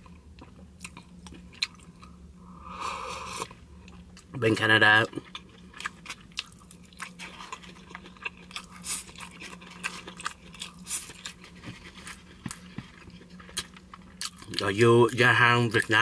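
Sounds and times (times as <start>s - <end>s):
person chewing food: 0.0s - 4.3s, 5.1s - 14.6s
faint low hum: 0.0s - 16.0s.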